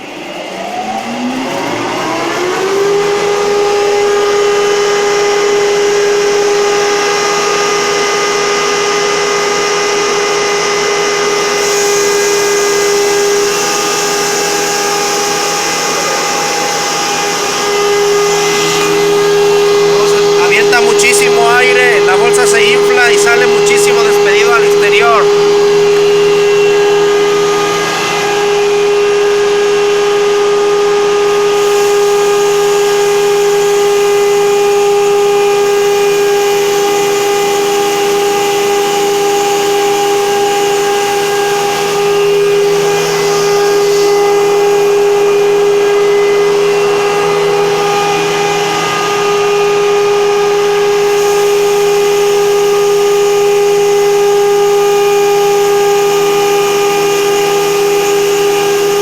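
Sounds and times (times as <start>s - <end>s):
grinding mill whining: 0.0s - 59.0s.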